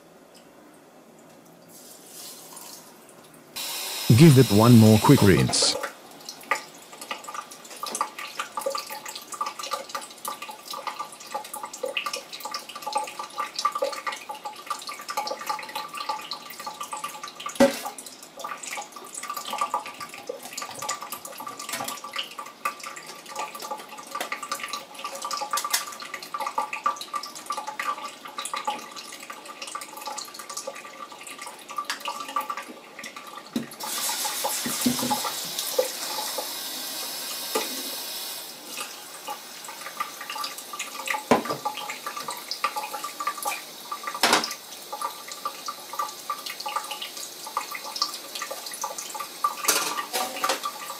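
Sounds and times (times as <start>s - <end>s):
tap water running into sink: 6.5s - 50.9s.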